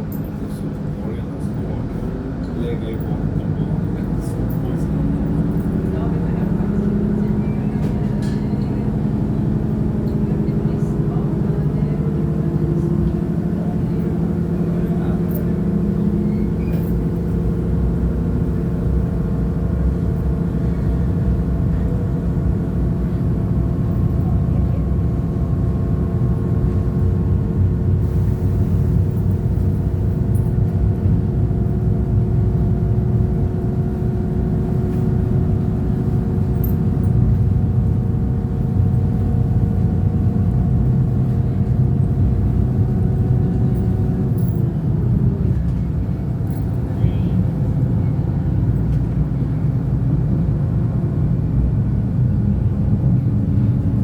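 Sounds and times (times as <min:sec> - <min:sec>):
diesel engine drone: 0:00.0 - 0:54.0
train wheels rumbling on track: 0:00.0 - 0:54.0.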